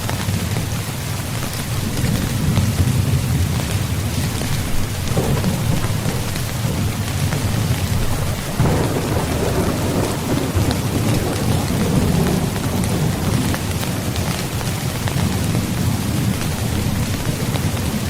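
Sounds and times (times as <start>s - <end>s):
heavy rain: 0.0s - 18.0s
thunder rumbling: 0.1s - 18.0s.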